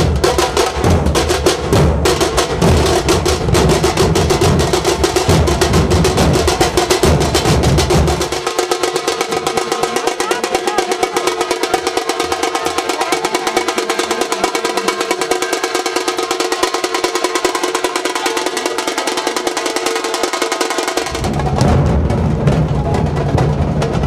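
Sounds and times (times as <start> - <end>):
rapid drumbeat: 0.0 - 24.0.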